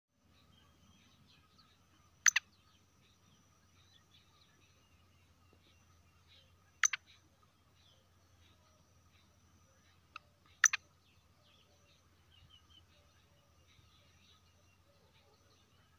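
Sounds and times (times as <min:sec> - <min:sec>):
faint background chirping: 0:00.1 - 0:15.9.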